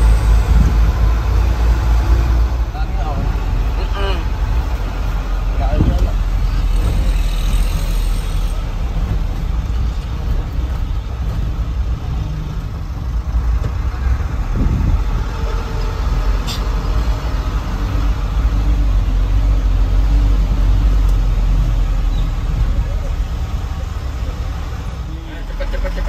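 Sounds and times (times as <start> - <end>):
truck engine low rumble: 0.0 - 26.0.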